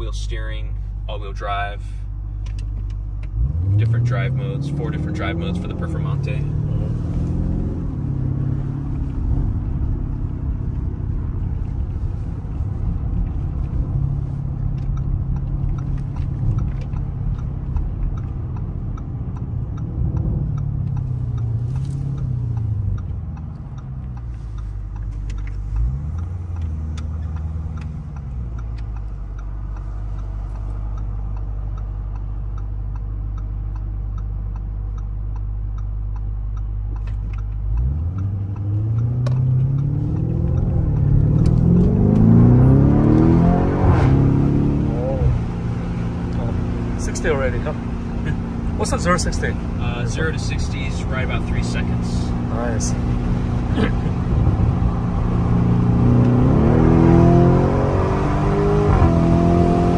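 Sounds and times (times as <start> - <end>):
car engine heard from cabin: 0.0 - 59.9.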